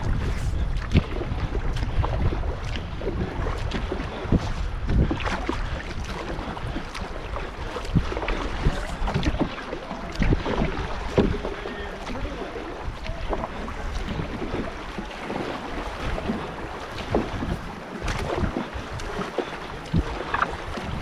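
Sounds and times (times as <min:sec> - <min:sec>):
water splashing and rushing: 0:00.0 - 0:21.0
wind buffeting microphone: 0:00.0 - 0:21.0
paddle knocks: 0:02.7 - 0:21.0.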